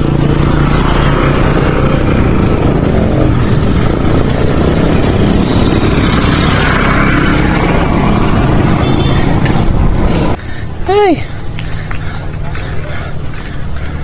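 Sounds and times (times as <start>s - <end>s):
bike road noise: 0.0s - 14.0s.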